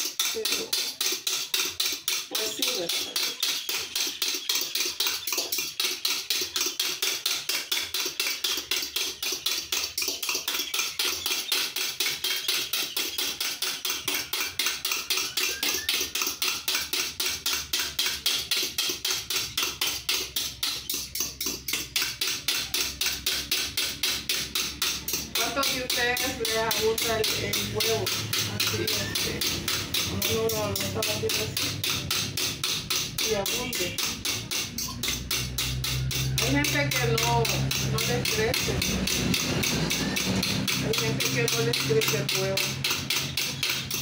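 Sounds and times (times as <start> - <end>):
whisk striking a bowl: 0.0 - 44.0.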